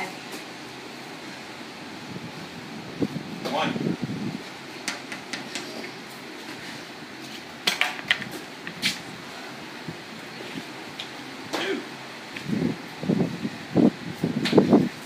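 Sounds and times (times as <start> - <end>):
floor fan rushing: 0.0 - 15.0.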